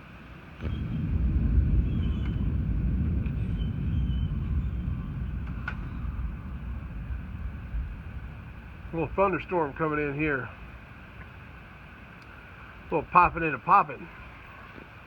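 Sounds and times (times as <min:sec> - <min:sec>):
thunder rumbling: 0:00.5 - 0:14.6.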